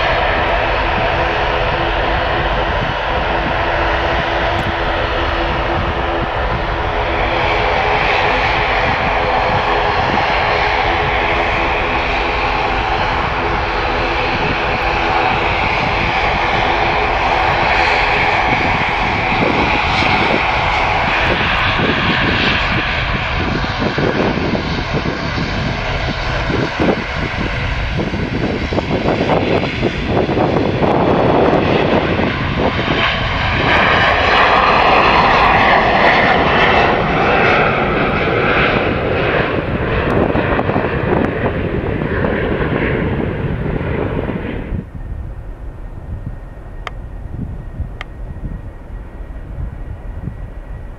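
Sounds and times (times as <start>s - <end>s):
jet taking off: 0.0s - 50.9s
turboprop engines droning: 0.0s - 50.9s.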